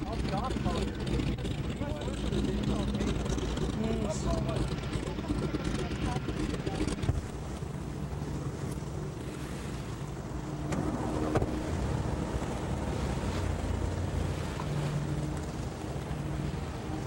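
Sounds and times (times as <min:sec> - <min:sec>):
distant propeller engines droning: 0:00.0 - 0:17.0.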